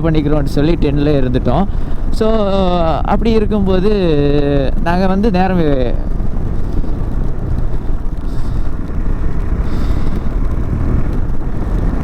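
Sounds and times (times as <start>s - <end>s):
motorcycle engine rumble: 0.0s - 12.0s
wind on microphone: 0.0s - 12.0s.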